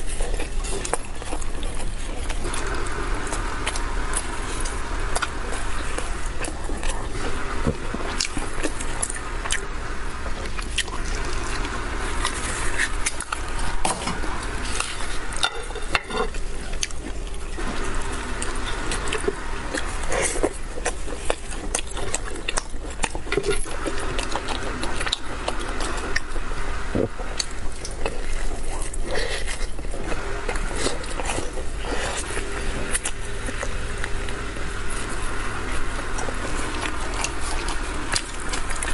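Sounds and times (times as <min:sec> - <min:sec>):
close-up chewing: 0:00.0 - 0:38.9.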